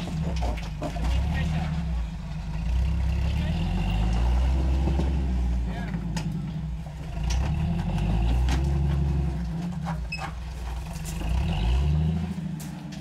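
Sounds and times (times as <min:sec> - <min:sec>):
jeep engine revving: 0:00.0 - 0:13.0.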